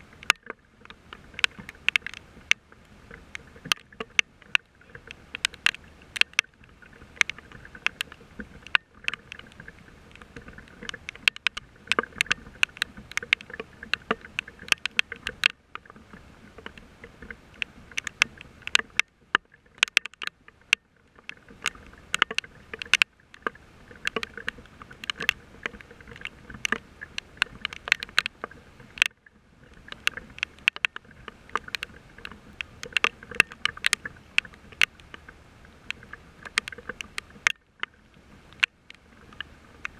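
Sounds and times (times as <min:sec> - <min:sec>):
large raindrops tapping: 0:00.0 - 0:39.9
rain pattering: 0:00.0 - 0:39.9.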